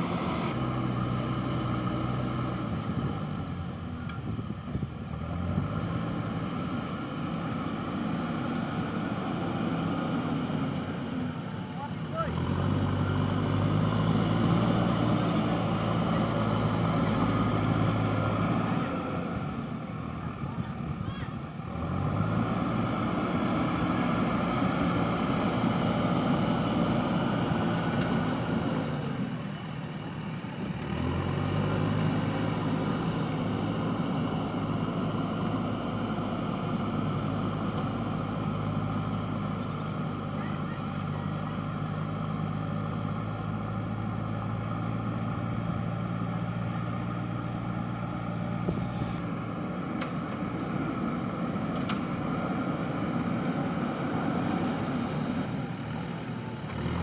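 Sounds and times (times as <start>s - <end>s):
diesel engine working hard: 0.0s - 57.0s.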